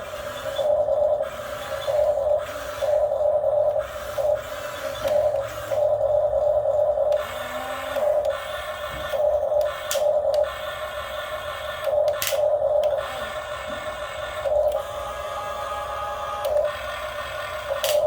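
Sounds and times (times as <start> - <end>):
electric motor and hydraulic pump whining: 0.0 - 18.0.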